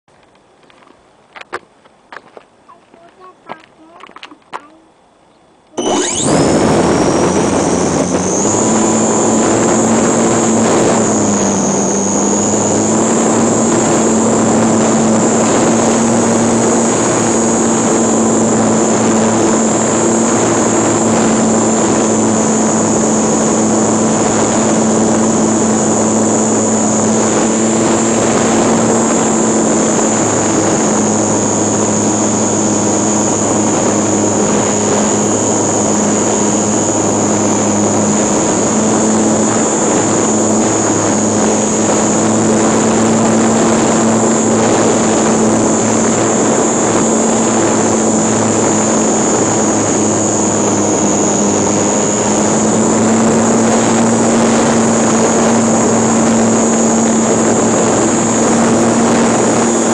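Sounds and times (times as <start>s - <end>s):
electric motor and propeller whine: 5.7s - 59.9s.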